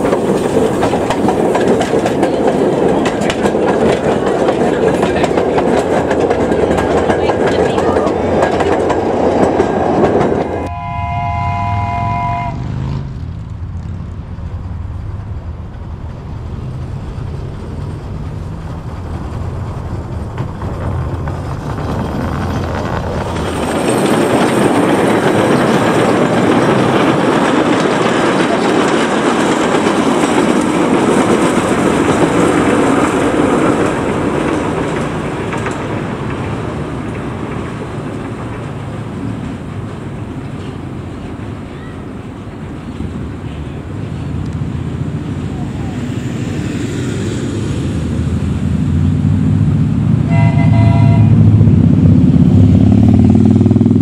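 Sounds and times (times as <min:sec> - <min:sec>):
train wheels clattering over rails: 0:00.0 - 0:10.7, 0:15.1 - 0:49.1.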